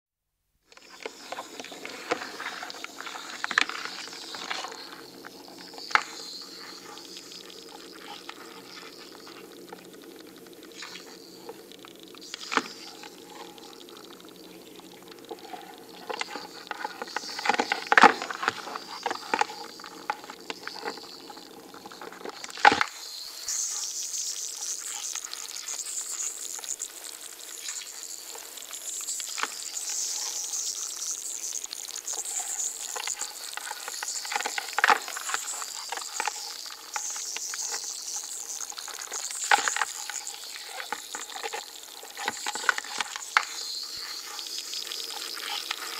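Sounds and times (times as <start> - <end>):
steady high hiss: 0.5 - 45.9
crab claws clicking and scratching: 0.8 - 22.9, 24.4 - 45.9.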